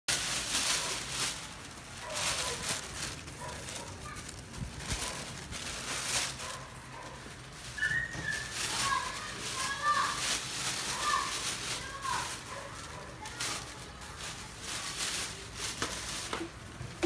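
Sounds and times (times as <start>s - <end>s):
plastic bags rustling and crinkling: 0.1s - 17.0s.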